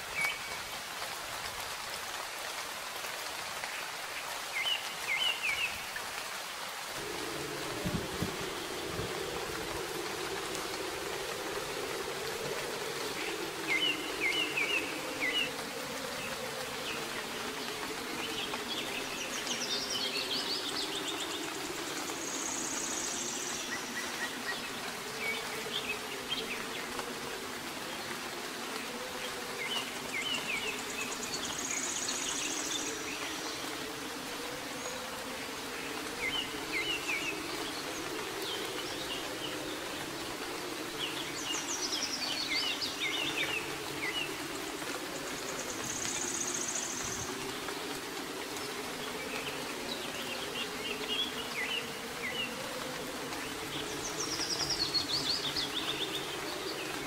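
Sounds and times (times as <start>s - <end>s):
soft rain hiss: 0.0s - 57.0s.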